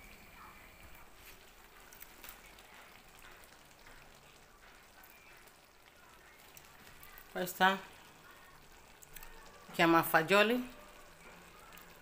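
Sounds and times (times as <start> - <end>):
stew popping and crackling: 0.0 - 12.0.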